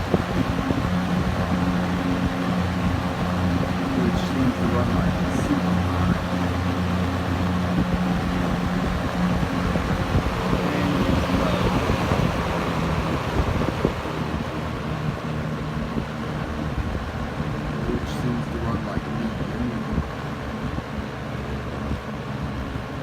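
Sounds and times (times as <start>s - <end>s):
box fan running: 0.0s - 23.0s.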